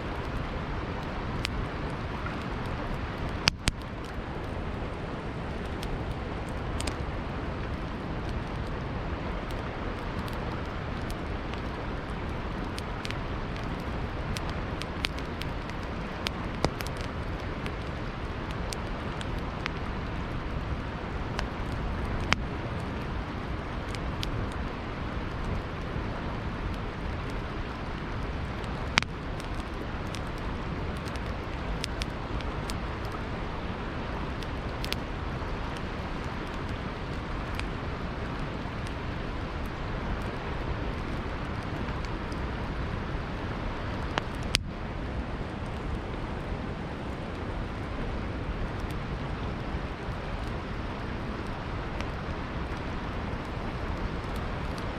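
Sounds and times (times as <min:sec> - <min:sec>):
campfire crackling: 0:00.0 - 0:54.9
flowing river water: 0:00.0 - 0:54.9.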